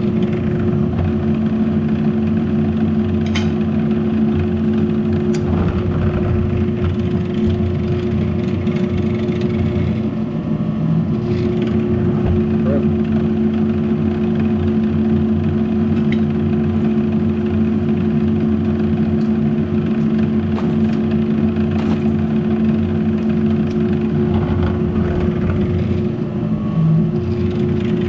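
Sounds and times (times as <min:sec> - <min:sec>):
drill press motor humming: 0:00.0 - 0:28.0.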